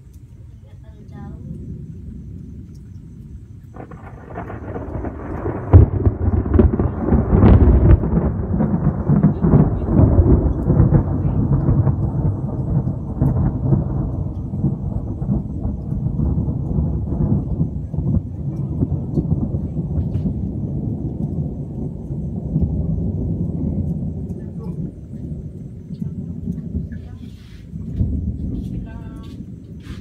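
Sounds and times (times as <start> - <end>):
thunder crack and rolling rumble: 0.0 - 30.0.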